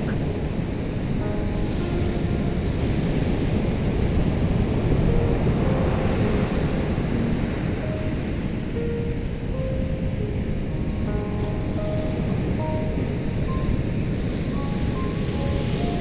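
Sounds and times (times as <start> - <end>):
ocean surf breaking: 0.0 - 16.0
soft background music: 0.0 - 16.0.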